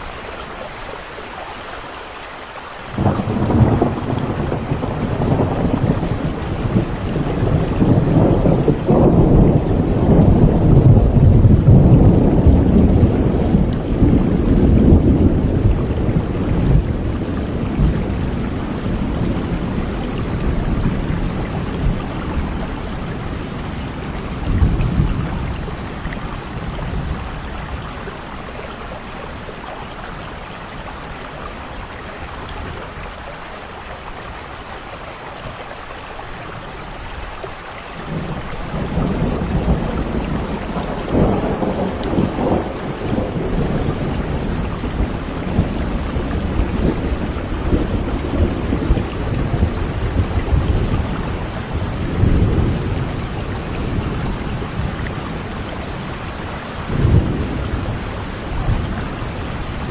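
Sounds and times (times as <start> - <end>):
steady rain: 0.0 - 59.9
rolling thunder: 3.0 - 30.4, 38.0 - 59.9.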